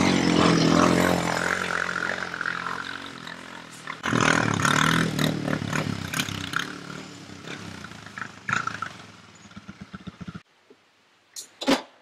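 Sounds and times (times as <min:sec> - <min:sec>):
quad engine pulling away: 0:00.0 - 0:10.4.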